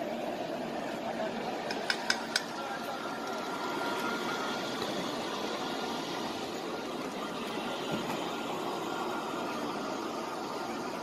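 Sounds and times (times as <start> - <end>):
hubbub of large crowd: 0.0 - 11.0.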